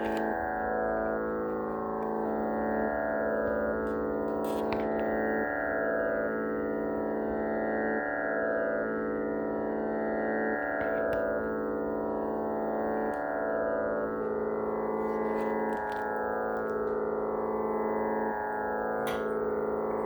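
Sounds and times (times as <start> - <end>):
tanpura drone: 0.0 - 20.0.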